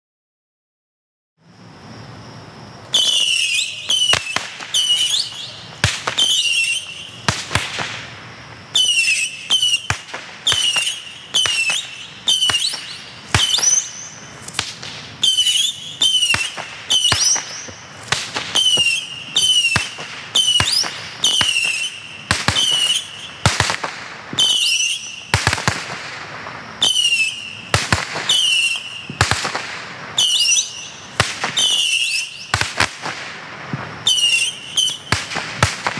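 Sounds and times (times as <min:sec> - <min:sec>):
firework missiles whistling and cracking: 0:01.4 - 0:35.9.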